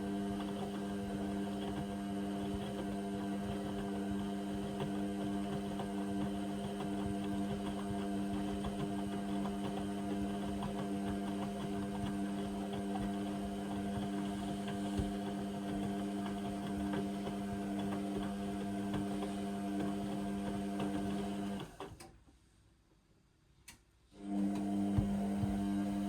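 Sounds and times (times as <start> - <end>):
washing machine motor humming: 0.0 - 22.0, 24.2 - 26.0.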